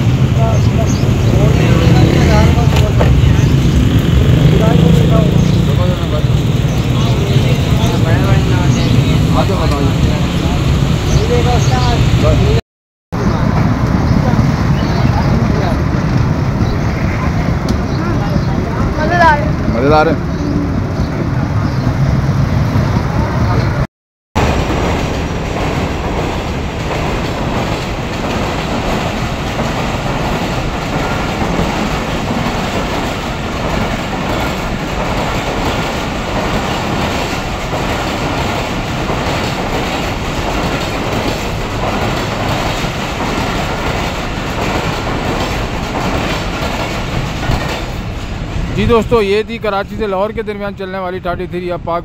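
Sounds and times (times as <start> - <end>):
train wheels on rails: 0.0 - 12.6, 13.2 - 23.8, 24.4 - 50.6.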